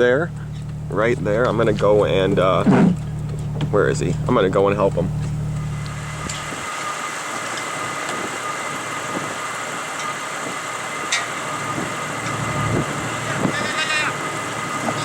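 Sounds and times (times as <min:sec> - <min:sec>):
car engine and road noise: 0:00.0 - 0:15.0
high whine: 0:00.0 - 0:15.0.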